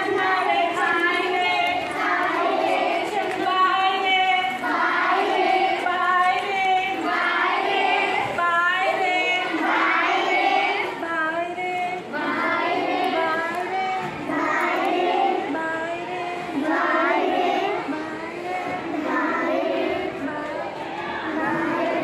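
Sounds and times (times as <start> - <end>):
young children singing: 0.0 - 22.0.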